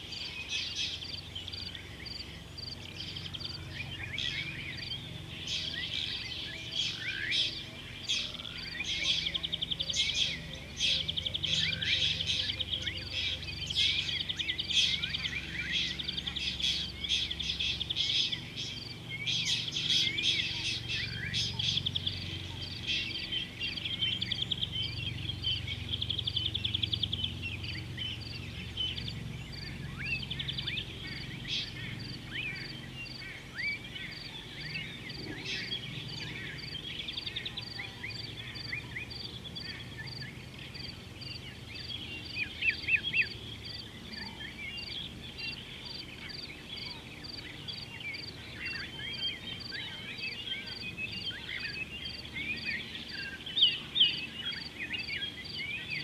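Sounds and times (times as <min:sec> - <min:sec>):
birds chirping and trilling: 0:00.0 - 0:56.0
steady low hum: 0:00.0 - 0:56.0.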